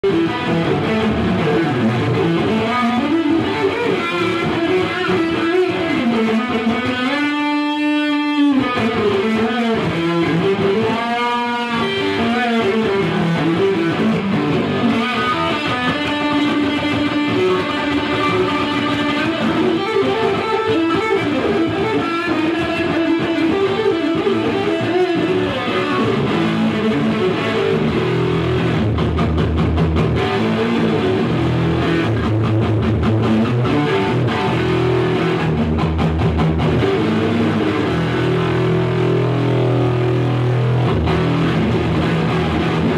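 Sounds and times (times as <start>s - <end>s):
electric guitar notes: 0.0s - 42.9s.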